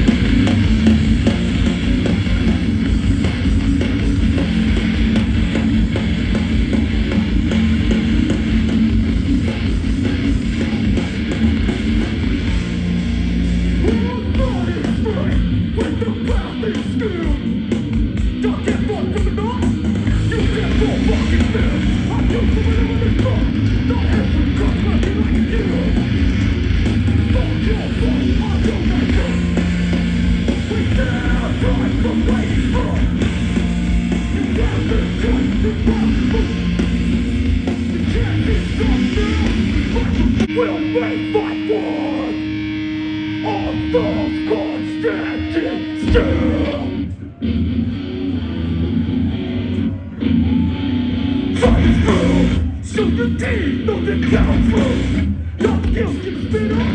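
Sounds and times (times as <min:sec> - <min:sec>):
punk band playing live: 0:00.0 - 0:56.9.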